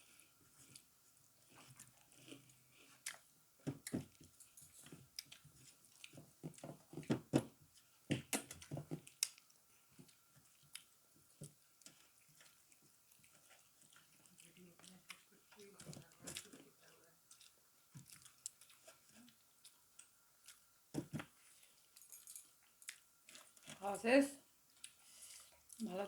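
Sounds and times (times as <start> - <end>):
person chewing with wet smacks: 0.0 - 23.8, 24.7 - 25.9.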